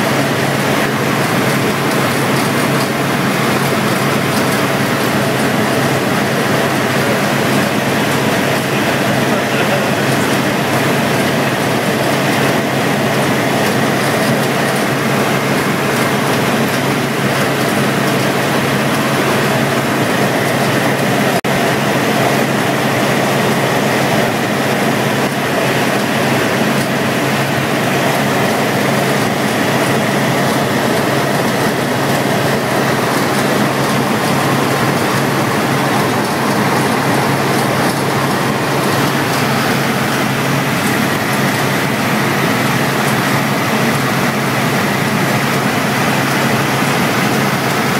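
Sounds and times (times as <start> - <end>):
helicopter engine and rotors droning: 2.7 - 41.8.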